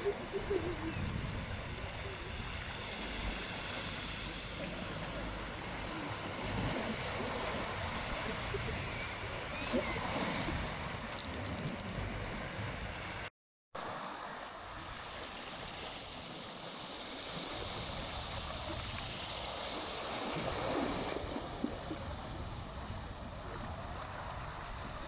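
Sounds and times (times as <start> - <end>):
waves washing over pebbles: 0.0 - 25.0.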